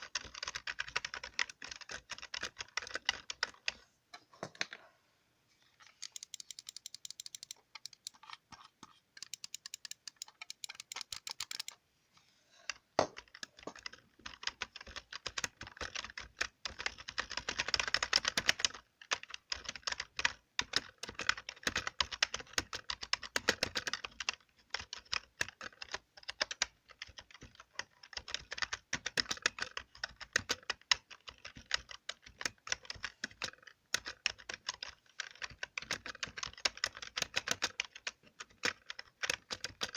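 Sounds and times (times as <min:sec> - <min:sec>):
keyboard typing: 0:00.0 - 0:04.8, 0:05.7 - 0:11.8, 0:12.6 - 0:39.9.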